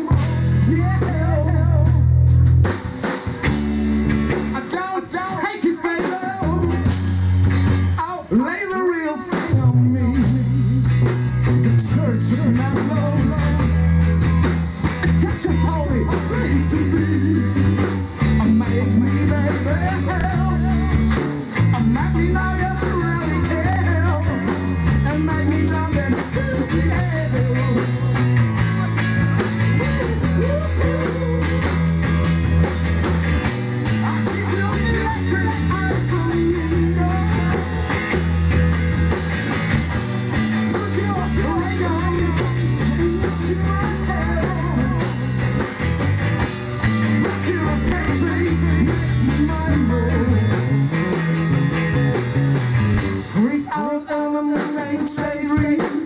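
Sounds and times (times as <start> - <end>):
lead vocal singing: 0.0 - 2.2, 4.5 - 7.1, 8.0 - 14.0, 15.0 - 32.2, 33.8 - 38.4, 40.3 - 45.7, 46.9 - 51.3, 53.2 - 56.0
bass line: 0.0 - 53.9
drum kit with driving cymbal beat: 0.0 - 56.0
electric guitar: 0.0 - 56.0.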